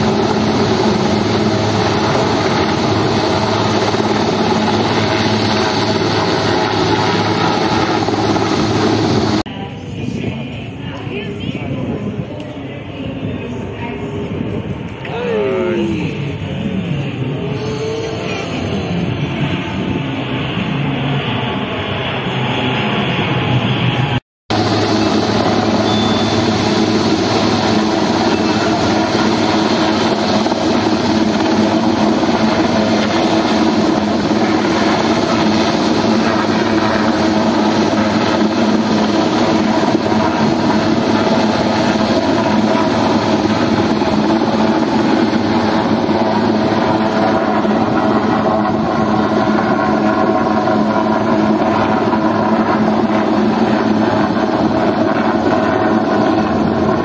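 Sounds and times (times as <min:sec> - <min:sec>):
helicopter hovering: 0:00.0 - 0:57.0
wind buffeting microphone: 0:00.0 - 0:57.0.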